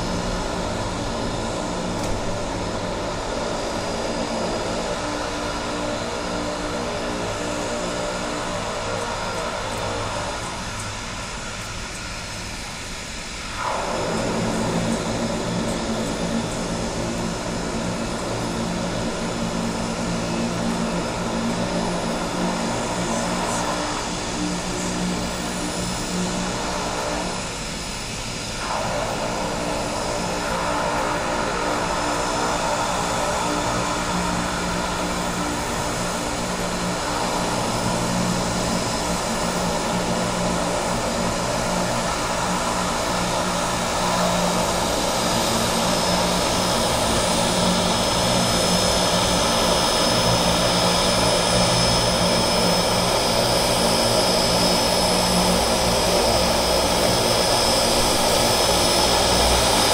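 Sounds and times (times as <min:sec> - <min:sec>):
propeller planes droning: 0:00.0 - 0:59.9.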